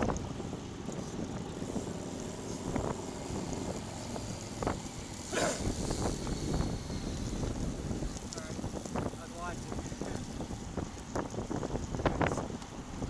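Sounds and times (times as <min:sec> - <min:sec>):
low riding rumble: 0:00.0 - 0:13.0
wind buffeting microphone: 0:00.0 - 0:13.0.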